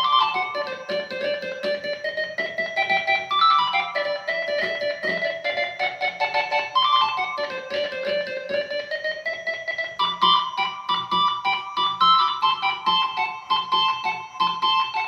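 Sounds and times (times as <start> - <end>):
combo organ playing quick melody: 0.0 - 15.0.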